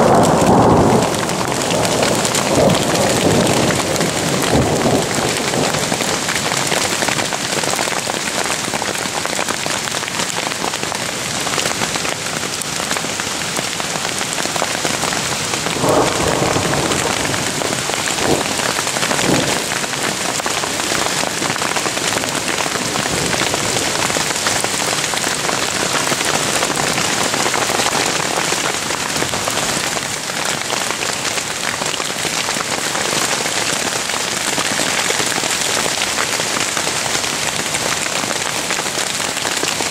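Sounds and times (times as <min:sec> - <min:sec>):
hail hitting tent fabric: 0:00.0 - 0:39.9.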